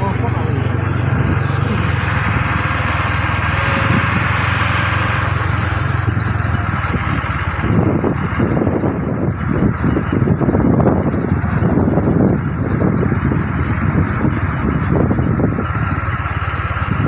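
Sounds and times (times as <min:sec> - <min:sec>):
small engine running: 0:00.0 - 0:17.0
wind buffeting microphone: 0:00.0 - 0:17.0.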